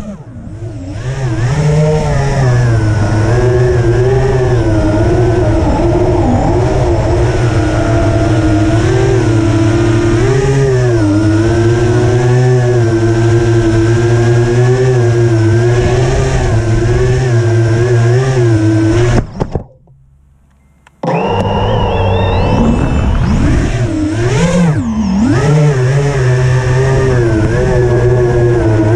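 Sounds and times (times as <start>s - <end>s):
quadcopter motors whining: 0.0s - 19.7s, 21.0s - 28.9s.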